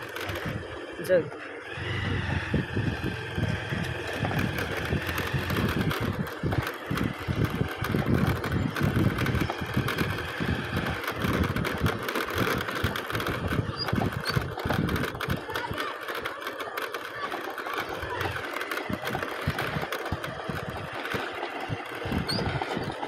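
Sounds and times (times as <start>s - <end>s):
wooden cart knocking: 0.0s - 0.6s, 2.2s - 23.0s
engine drone: 0.0s - 23.0s
wind buffeting microphone: 1.6s - 16.0s, 17.8s - 23.0s.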